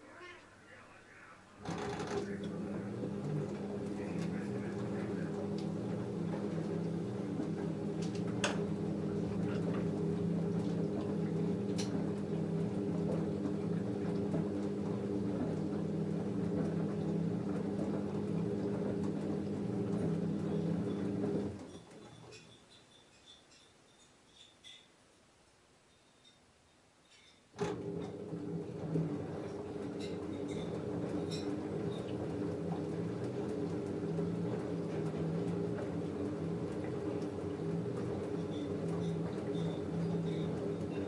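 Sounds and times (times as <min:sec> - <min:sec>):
washing machine humming: 0:00.0 - 0:23.4, 0:27.5 - 0:41.0.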